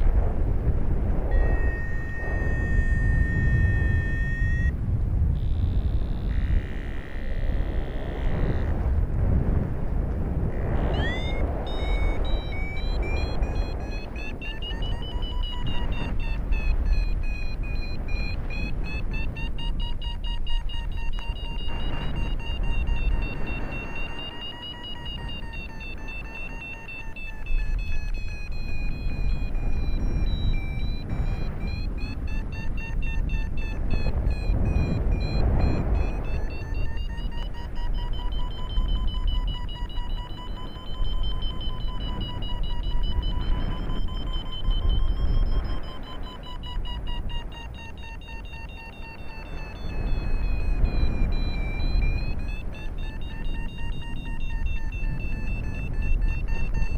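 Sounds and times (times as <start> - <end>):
wind rumble on microphone: 0.0 - 56.9
variometer short high beeps: 1.2 - 8.8, 10.5 - 56.9.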